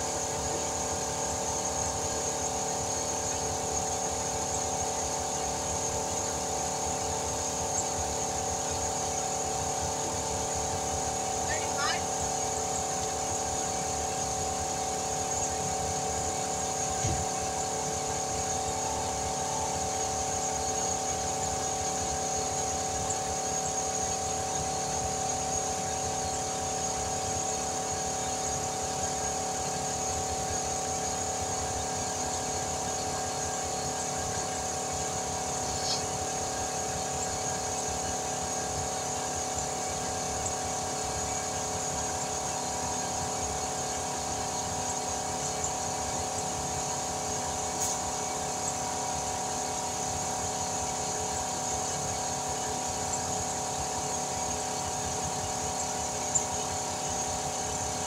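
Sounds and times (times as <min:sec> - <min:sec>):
air compressor humming: 0:00.0 - 0:58.0.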